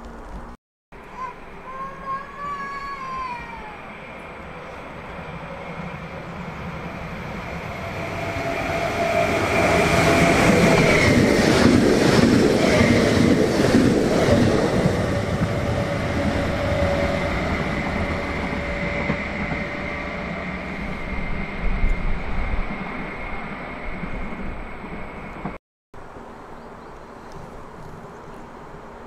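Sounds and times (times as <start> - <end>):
train passing with whine: 1.0 - 29.0.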